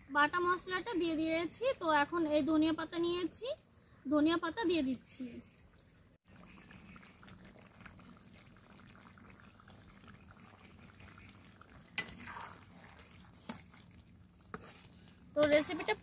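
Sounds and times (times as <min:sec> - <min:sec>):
curry bubbling in a pan: 0:02.5 - 0:16.0.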